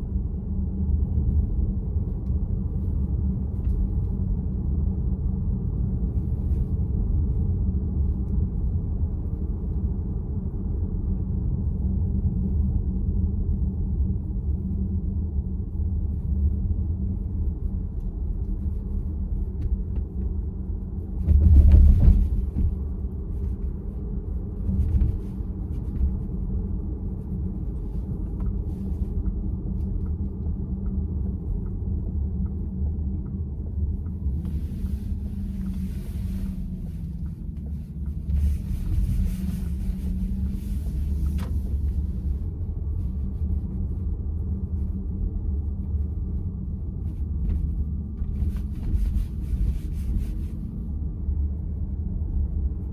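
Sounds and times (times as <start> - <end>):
road and tyre rumble in car: 0.0 - 52.9.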